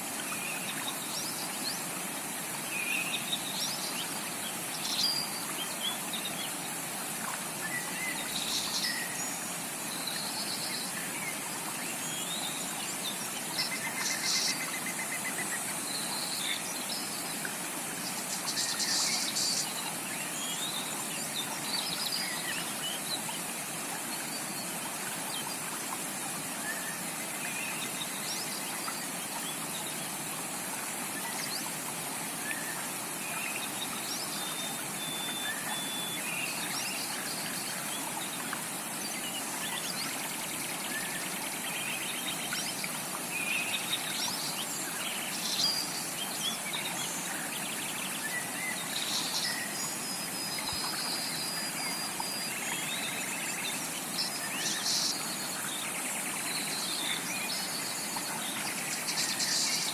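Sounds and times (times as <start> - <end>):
flowing stream: 0.0 - 59.9.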